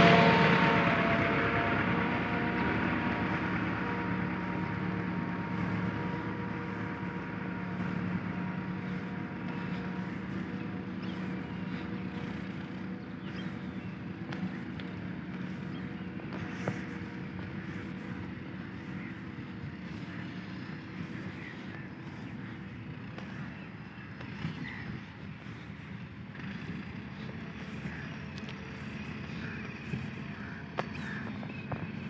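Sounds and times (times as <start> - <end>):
tractor diesel engine humming: 0.0 - 32.0.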